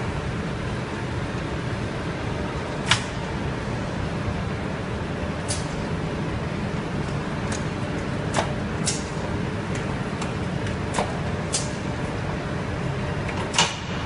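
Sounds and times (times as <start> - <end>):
conveyor low rumble: 0.0 - 14.0.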